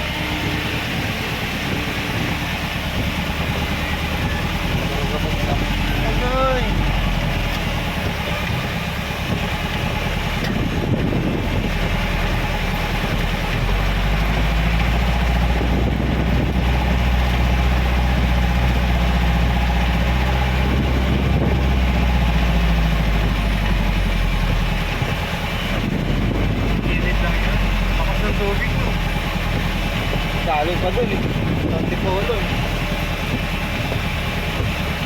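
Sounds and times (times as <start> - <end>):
road noise hiss: 0.0 - 35.0
vehicle engine running: 0.0 - 35.0.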